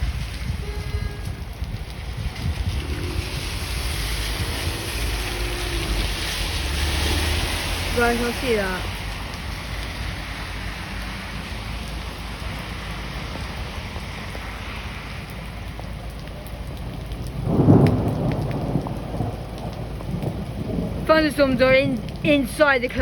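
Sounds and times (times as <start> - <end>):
heavy rain pouring: 0.0 - 23.0
thunder clap rumbling: 0.0 - 23.0.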